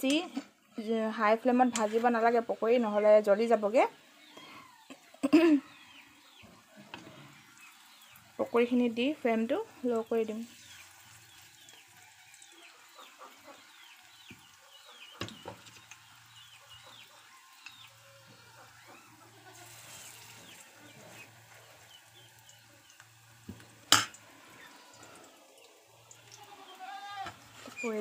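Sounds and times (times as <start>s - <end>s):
food sizzling in oil: 0.0s - 28.0s.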